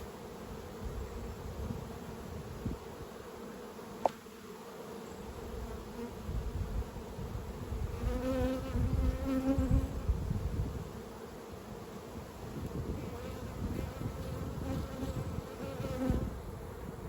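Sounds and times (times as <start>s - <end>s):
bee buzzing close by: 0.0s - 17.0s.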